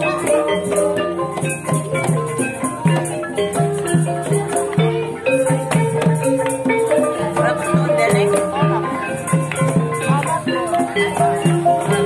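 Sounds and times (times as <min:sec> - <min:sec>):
drum strokes: 0:00.0 - 0:12.0
gamelan metal-keyed notes: 0:00.0 - 0:12.0.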